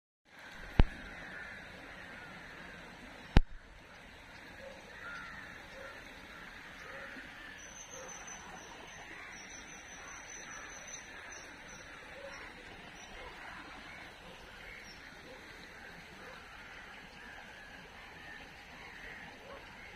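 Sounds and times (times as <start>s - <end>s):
birds chirping: 0.8s - 19.9s.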